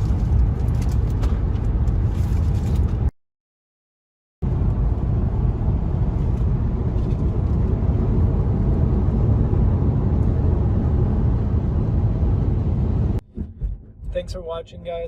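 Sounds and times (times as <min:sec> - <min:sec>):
car cabin road and wind noise: 0:00.0 - 0:03.1, 0:04.4 - 0:15.0.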